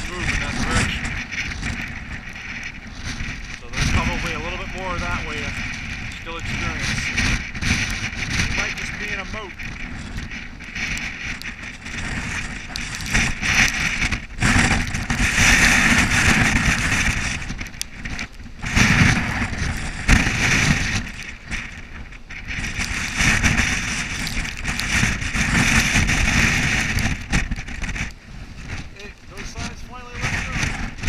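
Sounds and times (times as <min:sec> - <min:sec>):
gusty wind on microphone: 0:00.0 - 0:31.0.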